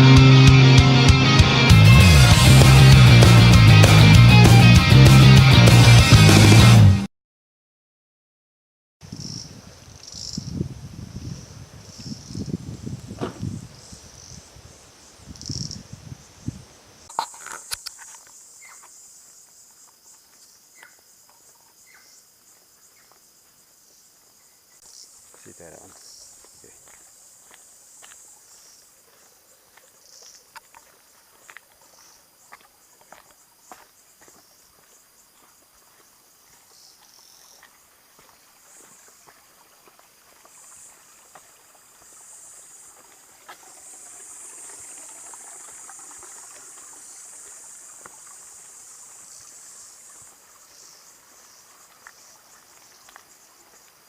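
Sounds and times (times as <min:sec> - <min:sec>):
forest insects calling: 0:09.0 - 0:54.0.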